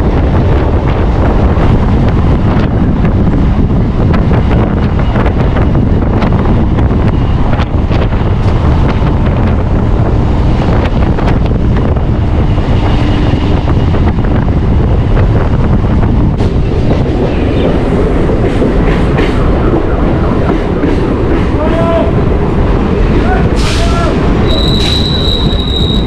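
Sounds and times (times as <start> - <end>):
train rumble: 0.0 - 26.0
wind rushing over microphone: 0.0 - 26.0.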